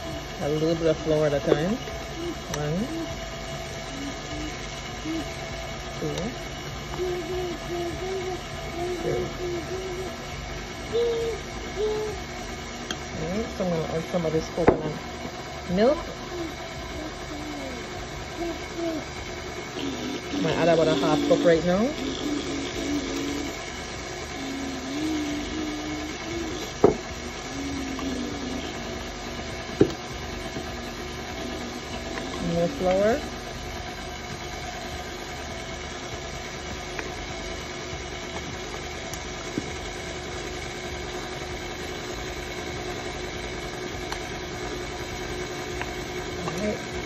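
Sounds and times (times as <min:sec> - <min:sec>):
stand mixer motor humming: 0:00.0 - 0:47.0.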